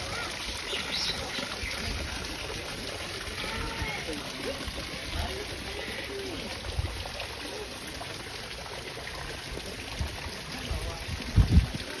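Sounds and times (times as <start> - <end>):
water flowing and trickling: 0.0 - 12.0.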